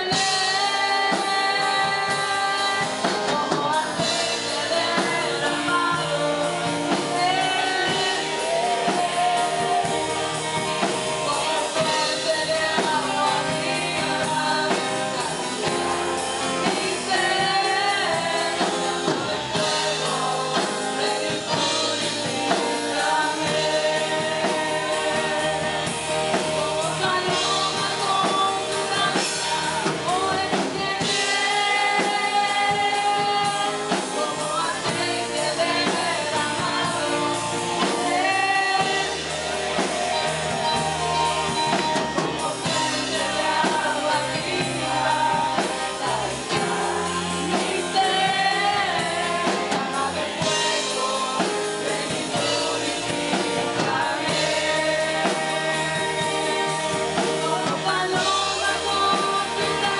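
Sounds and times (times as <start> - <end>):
electric guitar band: 0.0 - 59.9
men singing along: 0.0 - 59.9
woman singing into a microphone: 0.0 - 59.9.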